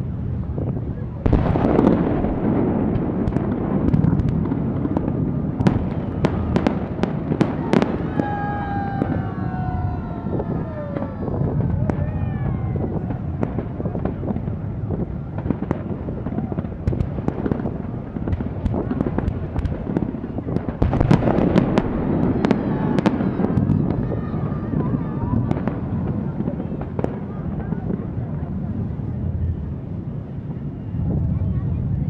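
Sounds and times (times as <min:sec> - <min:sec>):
fireworks bangs and crackling: 0:00.0 - 0:32.0
low rumble of bursting shells: 0:00.0 - 0:32.0.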